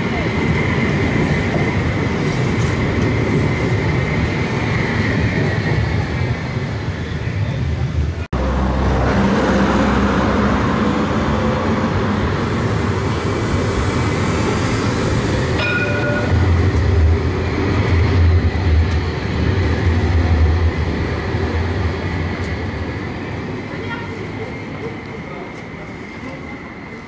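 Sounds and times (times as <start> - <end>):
tram rumbling along track: 0.0 - 27.0.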